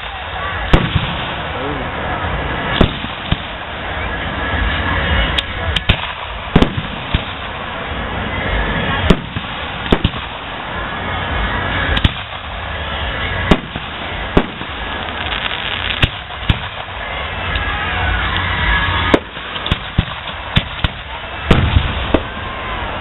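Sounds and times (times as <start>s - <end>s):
background noise: 0.0s - 23.0s
fireworks bangs: 0.0s - 23.0s.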